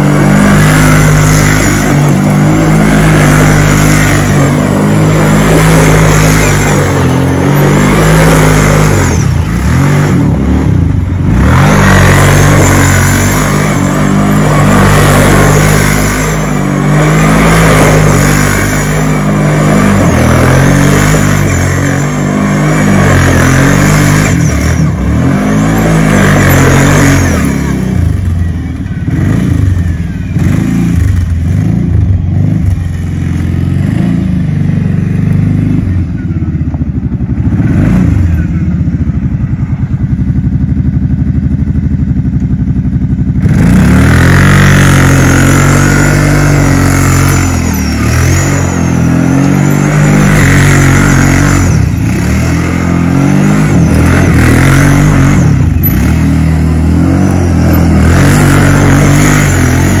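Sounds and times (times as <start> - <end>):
gritty dirt noise: 0.0 - 41.5, 42.1 - 60.0
quad bike engine revving: 0.0 - 60.0.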